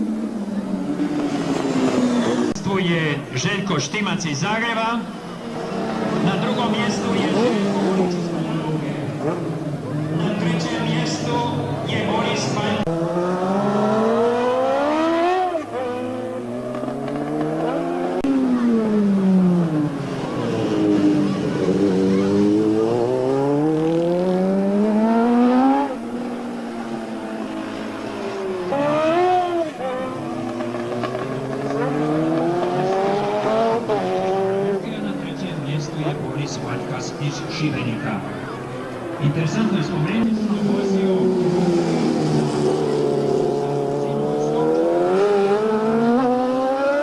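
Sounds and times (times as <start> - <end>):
racing motorcycles at speed: 0.0 - 47.0.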